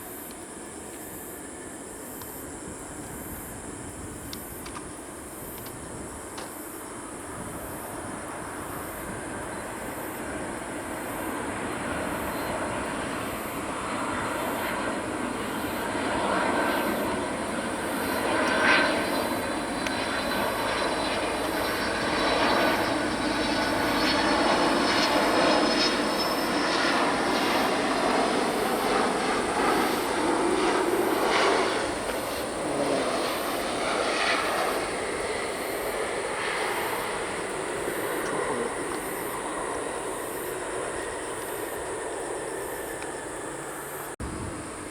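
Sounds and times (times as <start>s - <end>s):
airplane engine rushing: 0.0s - 44.9s.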